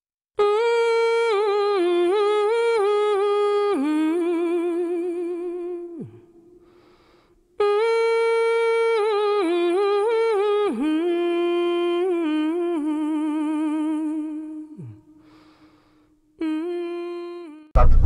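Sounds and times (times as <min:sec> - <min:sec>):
person humming: 0:00.4 - 0:06.8, 0:07.6 - 0:15.4, 0:16.4 - 0:17.9.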